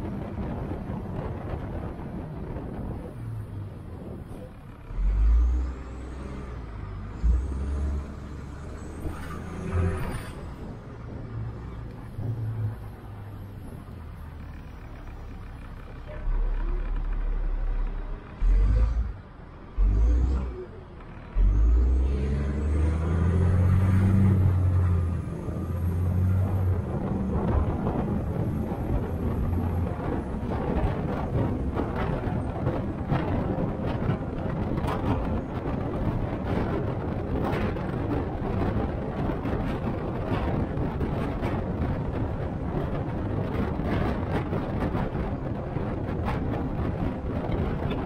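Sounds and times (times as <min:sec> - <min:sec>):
bus engine and tyres rumbling: 0:00.0 - 0:48.0.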